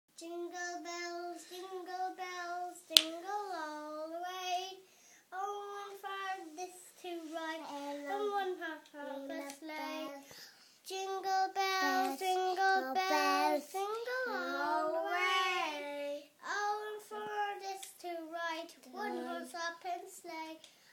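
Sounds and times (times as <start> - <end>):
child singing: 0.1 - 20.8.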